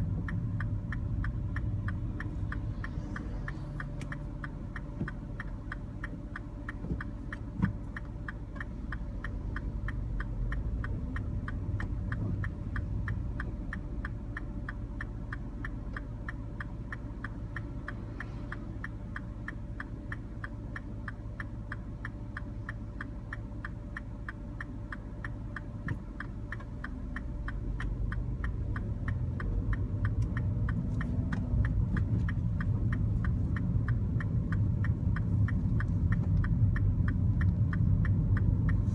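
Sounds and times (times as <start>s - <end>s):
car engine rumbling: 0.0s - 38.9s
turn signal ticking: 0.0s - 38.9s.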